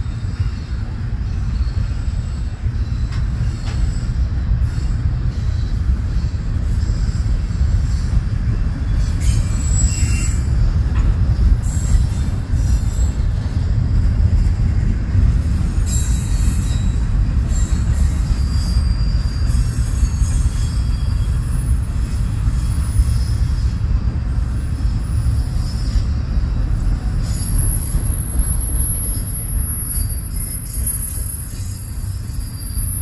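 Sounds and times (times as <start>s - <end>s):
high wheel squeals: 0.0s - 14.8s, 15.4s - 33.0s
freight train rumbling past: 0.0s - 33.0s.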